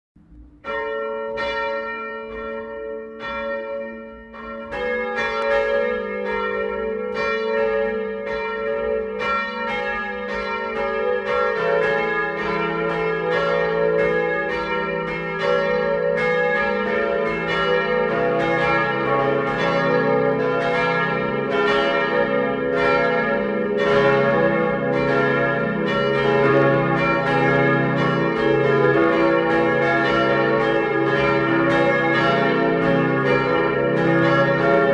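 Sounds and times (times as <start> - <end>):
synthesized church bells ringing: 0.2 - 34.9.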